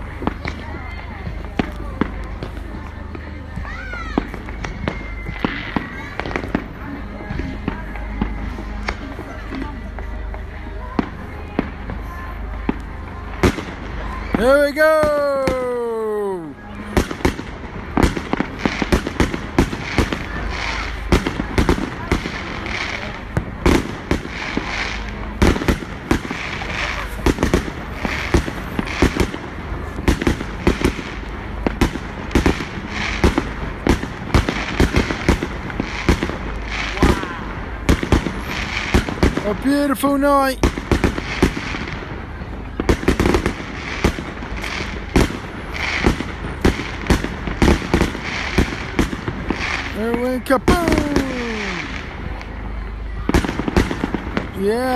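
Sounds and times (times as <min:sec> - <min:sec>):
background crackle: 0:00.0 - 0:54.9
fireworks bangs: 0:00.0 - 0:54.9.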